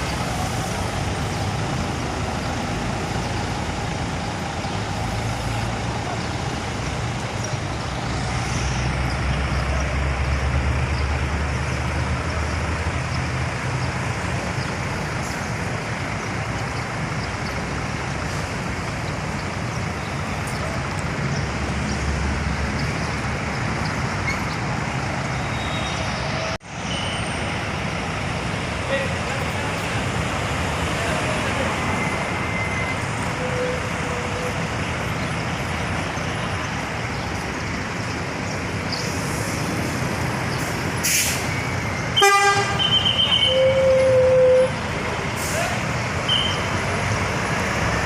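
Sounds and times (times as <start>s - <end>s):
diesel engine humming: 0.0s - 48.0s
traffic noise: 0.0s - 48.0s.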